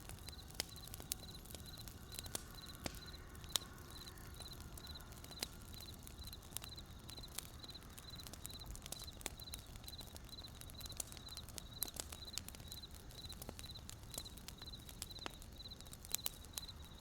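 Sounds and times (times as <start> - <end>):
wood fire crackling: 0.0 - 17.0
cricket chirping: 0.2 - 17.0.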